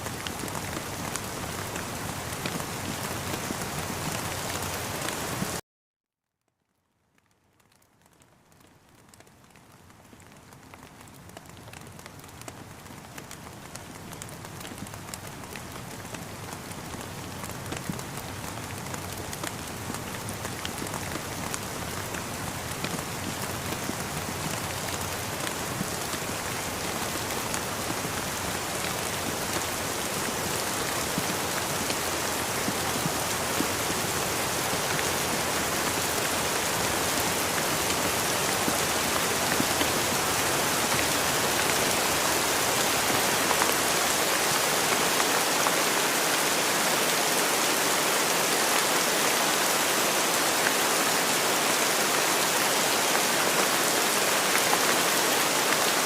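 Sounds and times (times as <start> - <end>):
rain falling steadily: 0.0 - 5.6, 6.4 - 56.0.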